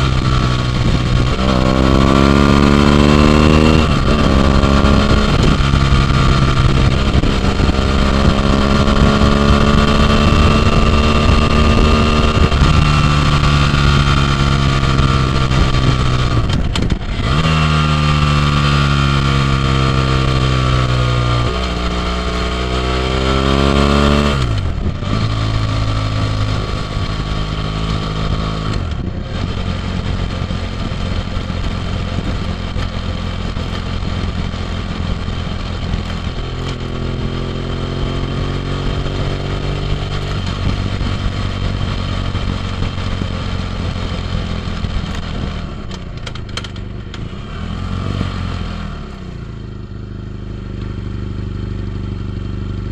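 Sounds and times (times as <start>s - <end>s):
wind noise: 0.0s - 49.8s
motorcycle engine running: 0.0s - 52.9s.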